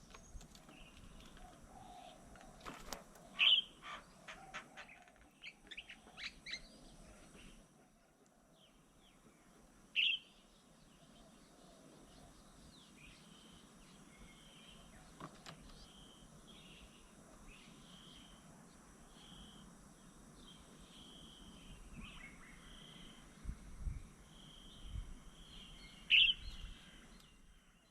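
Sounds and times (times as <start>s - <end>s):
small birds chirping: 0.0s - 7.6s, 8.4s - 27.9s
outdoor background noise: 0.0s - 27.9s.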